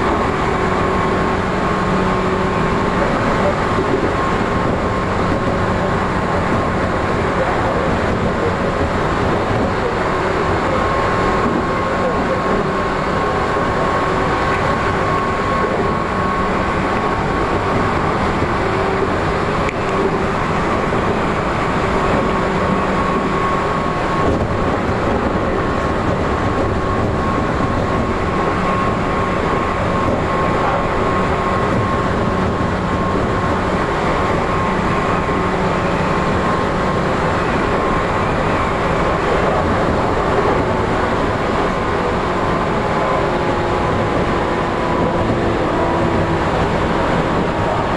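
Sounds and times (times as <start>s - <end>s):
wheels rumbling on rail: 0.0s - 47.9s.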